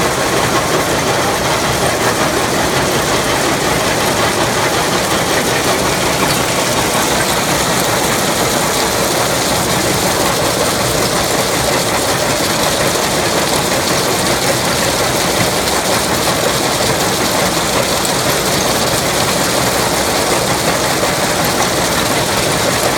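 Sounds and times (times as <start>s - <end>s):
rock crusher running: 0.0s - 22.9s.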